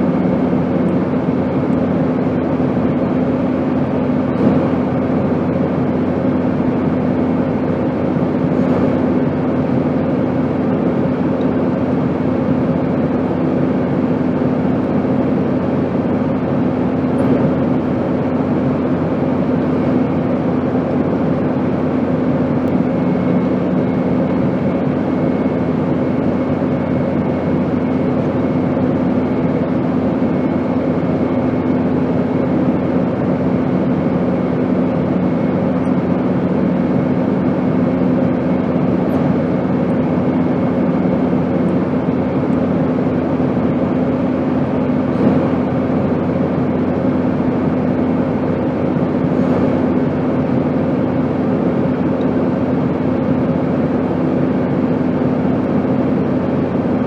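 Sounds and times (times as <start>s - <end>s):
airplane engine rush: 0.0s - 57.0s
constant low hum: 0.0s - 57.0s.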